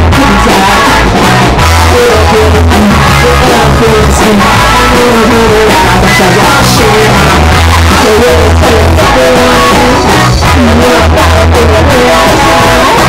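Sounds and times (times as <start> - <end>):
live rock band playing: 0.0 - 13.0
man singing: 0.0 - 13.0.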